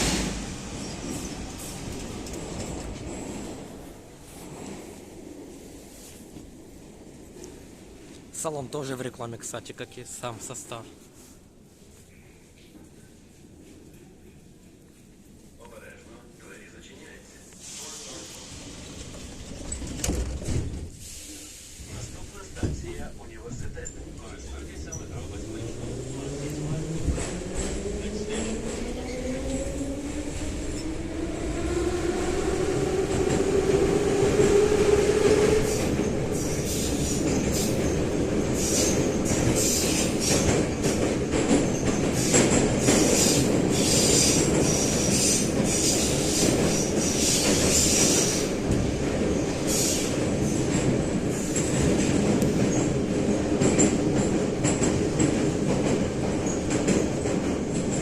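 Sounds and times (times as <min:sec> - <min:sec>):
train rumbling and rattling: 0:00.0 - 0:58.0.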